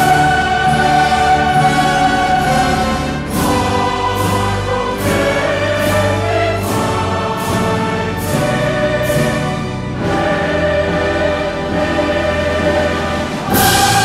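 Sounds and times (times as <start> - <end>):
regular beat of struck hits: 0.0 - 14.0.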